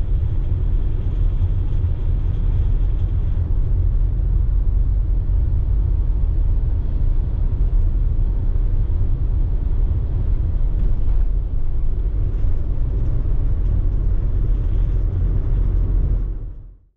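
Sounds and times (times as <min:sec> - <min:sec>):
car rumbling through tunnel: 0:00.0 - 0:16.8.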